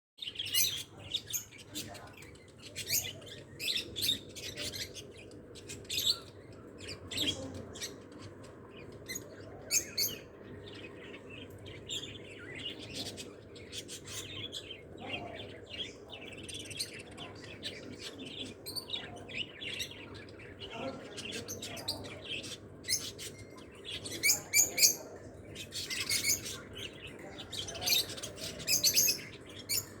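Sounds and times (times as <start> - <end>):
birds chirping: 0.2 - 30.0.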